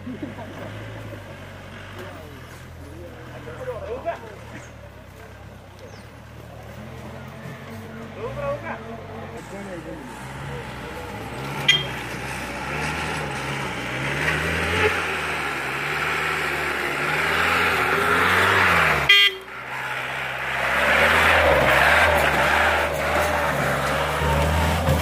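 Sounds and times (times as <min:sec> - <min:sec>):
jeep engine revving: 0:00.0 - 0:25.0.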